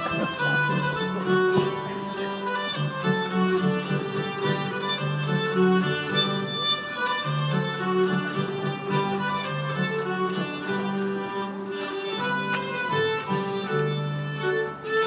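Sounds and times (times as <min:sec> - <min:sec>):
folk dance tune on fiddle: 0:00.0 - 0:15.0.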